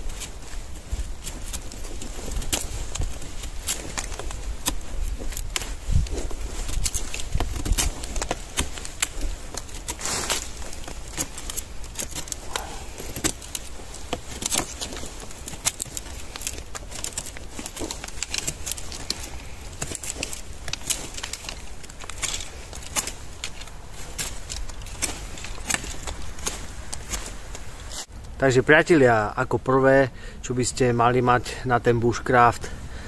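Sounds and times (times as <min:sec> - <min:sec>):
handling clicks and crinkles: 0:00.0 - 0:28.4.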